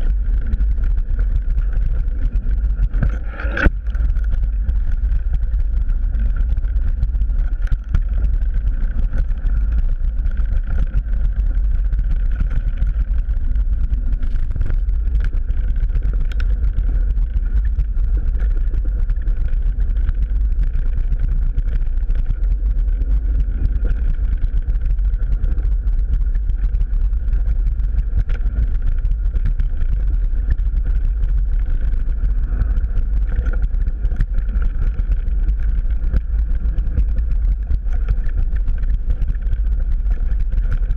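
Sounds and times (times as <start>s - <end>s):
bike tyres on dirt: 0.0s - 40.9s
wind rumble on microphone: 0.0s - 40.9s.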